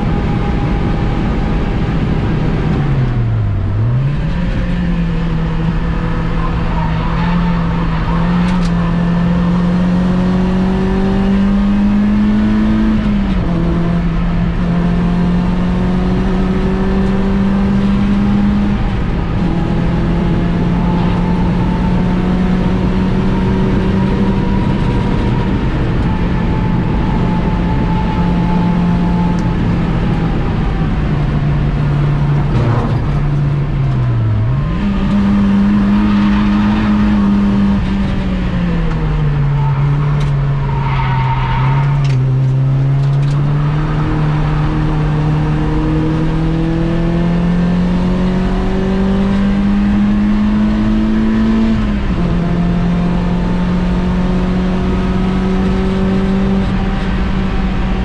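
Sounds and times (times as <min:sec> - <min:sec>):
car engine under hard driving: 0:00.0 - 0:58.0.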